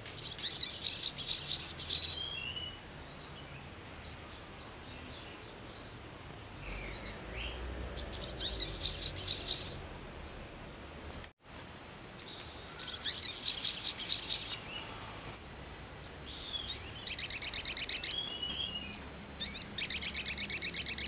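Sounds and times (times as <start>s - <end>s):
sunbird singing: 0.0s - 11.3s, 12.1s - 21.0s.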